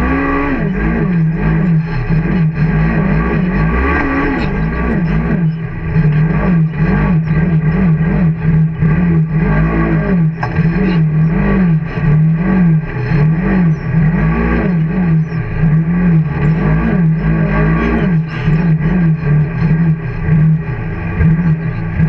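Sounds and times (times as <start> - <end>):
engine revving up and down: 0.0 - 22.0.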